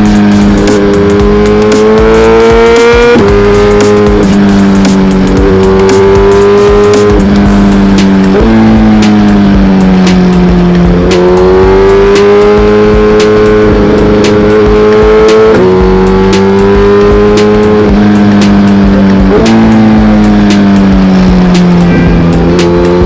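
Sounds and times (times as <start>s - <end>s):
motorcycle engine at high revs: 0.0s - 23.0s.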